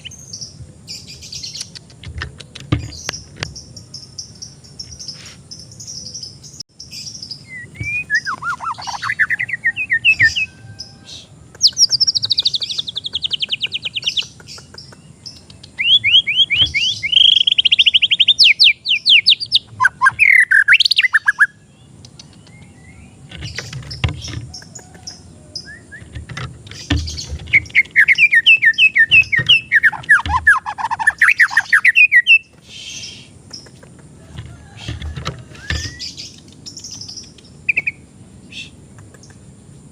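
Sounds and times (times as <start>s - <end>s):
songbird trills: 0.0s - 39.5s.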